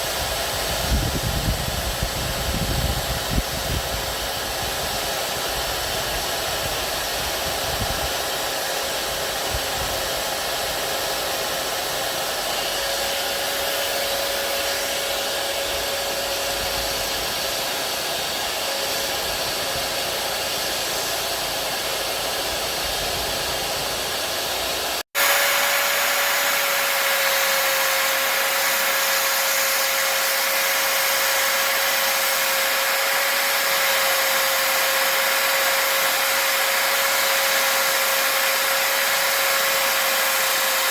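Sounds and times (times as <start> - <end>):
electric drill sanding wood: 0.0 - 40.9.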